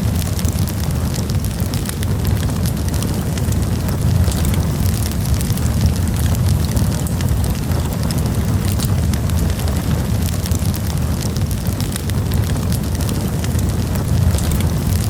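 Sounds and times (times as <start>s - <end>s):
campfire roar: 0.0s - 15.0s
fire crackling and popping: 0.0s - 15.0s.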